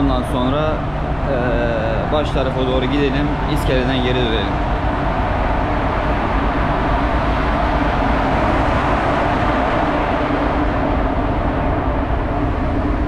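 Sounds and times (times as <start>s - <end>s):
low rumble: 0.0s - 13.0s
strong wind on microphone: 0.0s - 13.0s.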